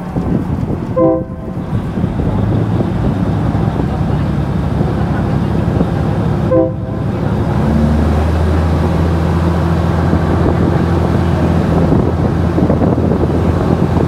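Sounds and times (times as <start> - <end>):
train engine drone: 0.0 - 14.0
wind through carriage window: 0.0 - 14.0.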